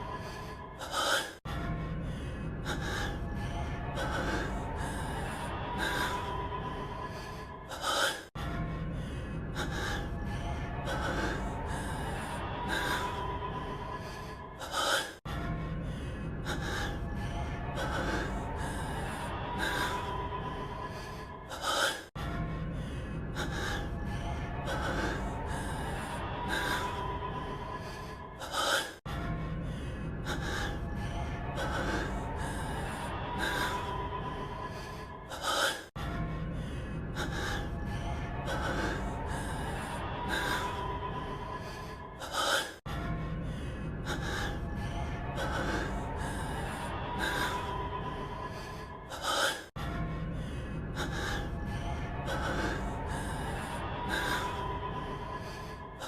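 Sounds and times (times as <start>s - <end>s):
faint background music: 0.0s - 56.0s
man panting heavily: 0.0s - 56.0s.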